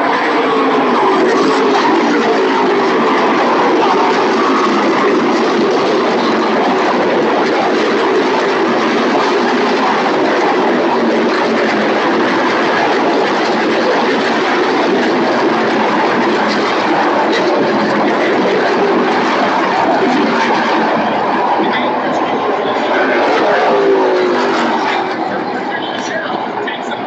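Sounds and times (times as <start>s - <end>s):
race trucks engines at speed: 0.0s - 27.0s.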